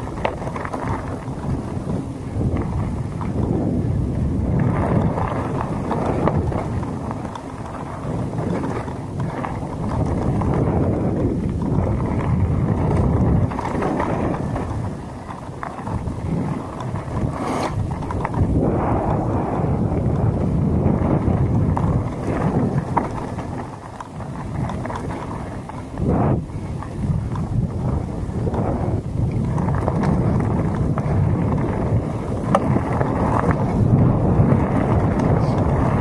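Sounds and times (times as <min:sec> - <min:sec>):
bike tyres rolling on gravel: 0:00.0 - 0:36.0
wind buffeting microphone: 0:00.0 - 0:36.0.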